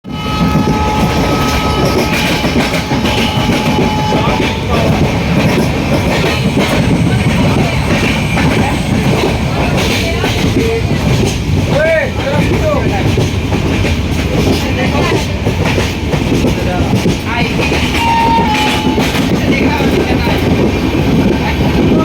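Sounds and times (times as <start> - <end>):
train rumbling: 0.0 - 22.0
wheels clattering on rails: 0.2 - 22.0.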